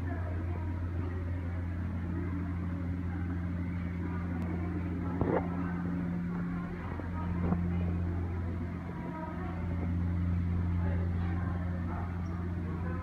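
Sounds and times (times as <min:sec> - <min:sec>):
faint chatter of voices: 0:00.0 - 0:13.0
low mechanical hum: 0:00.0 - 0:13.0.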